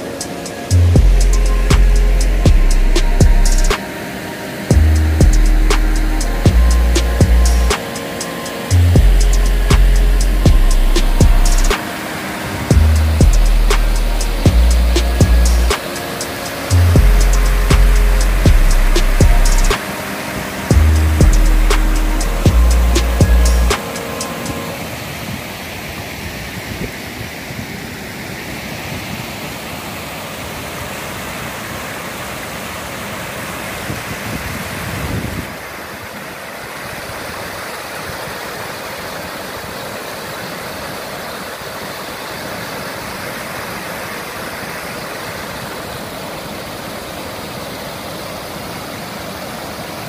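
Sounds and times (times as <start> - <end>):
river water rushing over rapids: 0.0 - 1.5, 2.2 - 50.0.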